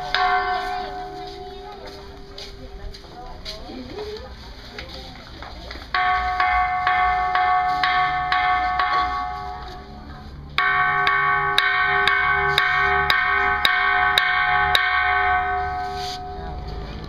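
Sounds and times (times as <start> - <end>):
temple bell struck with stick: 0.0 - 3.2, 5.9 - 17.0.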